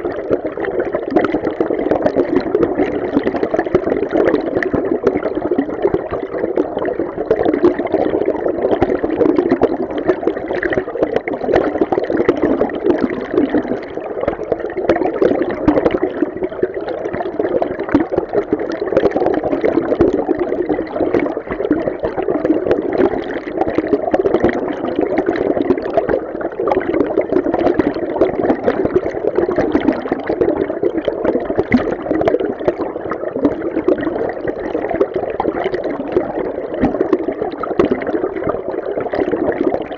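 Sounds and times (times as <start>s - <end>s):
muffled underwater water rush: 0.0s - 39.9s
water bubbling and gurgling: 0.0s - 39.9s.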